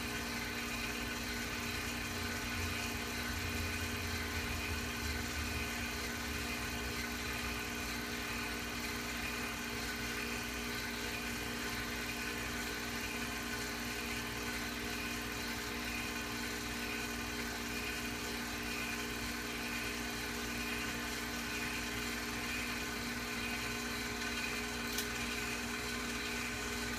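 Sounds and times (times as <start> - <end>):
film projector motor whirring: 0.0 - 26.9.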